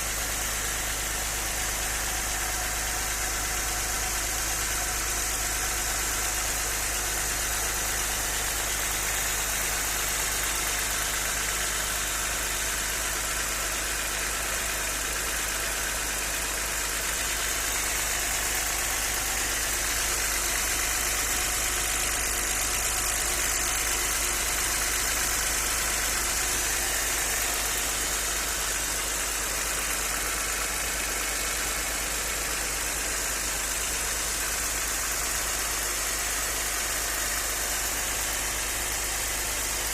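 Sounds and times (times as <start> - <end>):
car engine idling with knock: 0.0 - 39.9.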